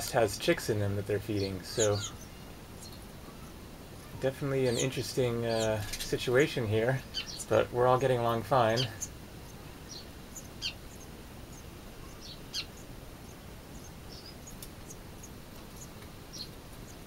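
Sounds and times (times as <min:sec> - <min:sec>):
faint background hiss: 0:00.0 - 0:17.0
small birds chirping: 0:00.0 - 0:17.0.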